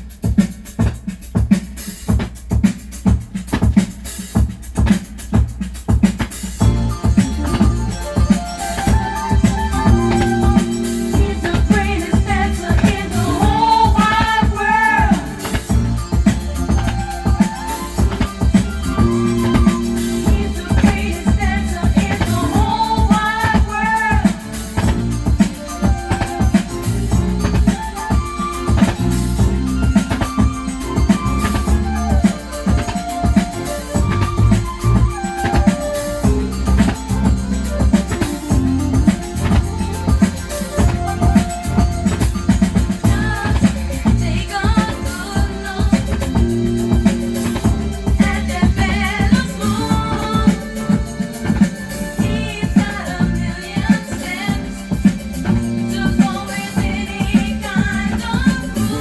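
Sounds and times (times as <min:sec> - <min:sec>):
disco-funk song on vinyl: 0:00.0 - 0:59.0
person singing: 0:07.5 - 0:59.0.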